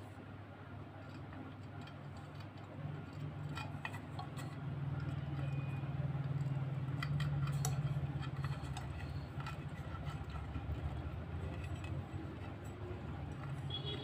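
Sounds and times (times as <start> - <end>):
low steady hum: 0.0 - 14.0
wires and plastic clicking: 0.9 - 14.0.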